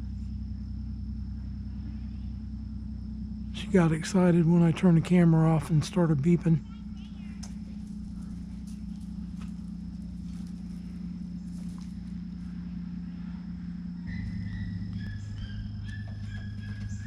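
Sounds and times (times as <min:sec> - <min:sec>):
high steady whine: 0:00.0 - 0:17.0
low mechanical hum: 0:00.0 - 0:17.0.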